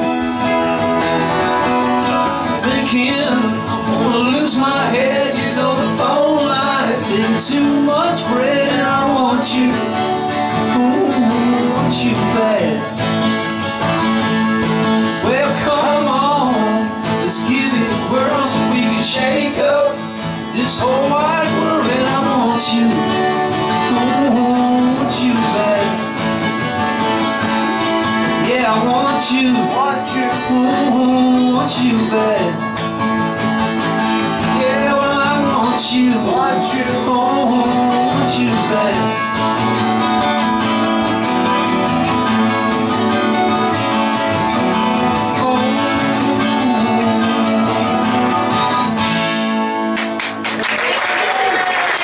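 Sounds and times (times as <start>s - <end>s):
acoustic guitars strummed and picked: 0.0s - 52.0s.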